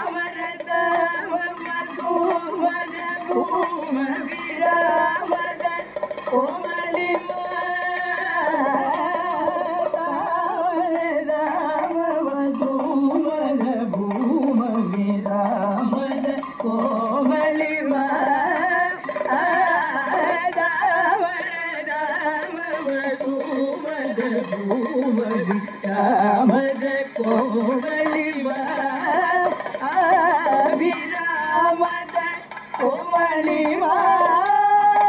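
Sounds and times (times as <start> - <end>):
person singing with wavering ornaments: 0.0 - 35.0.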